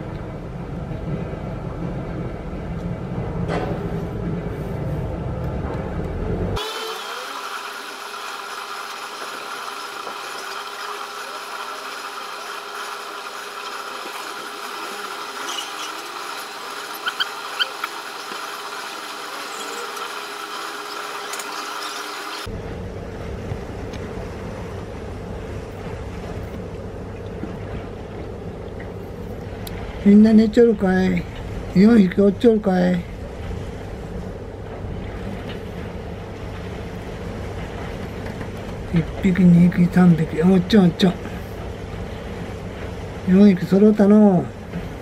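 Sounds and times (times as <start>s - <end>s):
steady mechanical hum: 0.0s - 45.0s.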